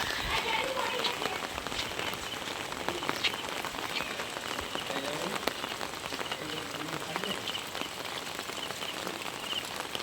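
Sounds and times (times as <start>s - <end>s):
very heavy rain: 0.0s - 10.0s.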